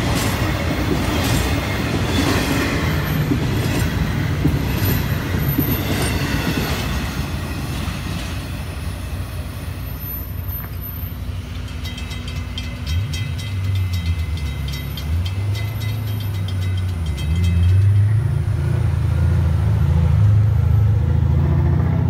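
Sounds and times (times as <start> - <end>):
crossing bell ringing: 0.0 - 20.4
road traffic rumble: 0.0 - 22.0.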